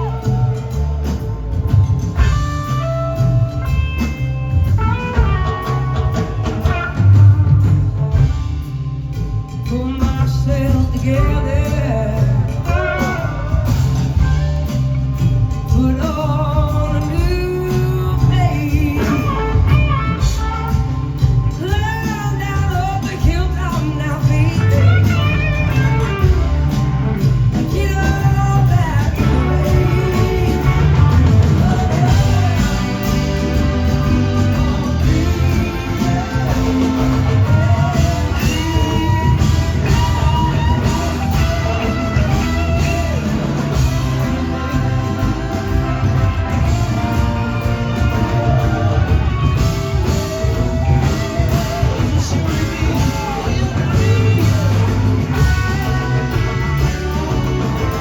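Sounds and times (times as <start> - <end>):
electric guitar lines: 0.0 - 58.0
live rock band playing: 0.0 - 58.0.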